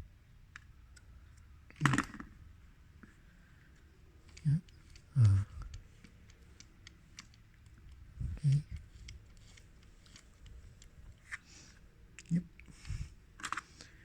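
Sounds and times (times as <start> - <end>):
small parts clicking and tapping: 0.5 - 2.4, 3.0 - 14.0.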